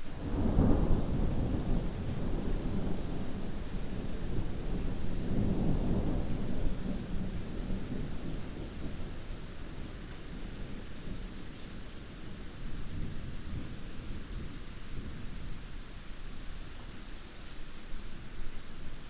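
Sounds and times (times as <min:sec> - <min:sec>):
heavy rain: 0:00.0 - 0:19.0
rolling thunder: 0:00.2 - 0:15.7.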